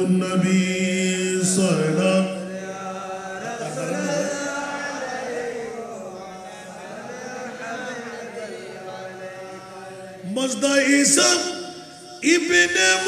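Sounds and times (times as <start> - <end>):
man chanting into microphones: 0.0 - 13.0.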